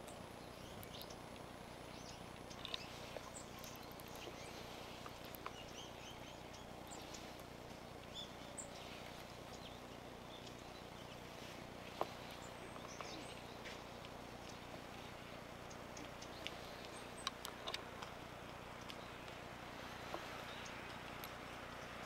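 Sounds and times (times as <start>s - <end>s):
steady background noise: 0.0s - 22.0s
high-pitched bird calls: 1.9s - 22.0s.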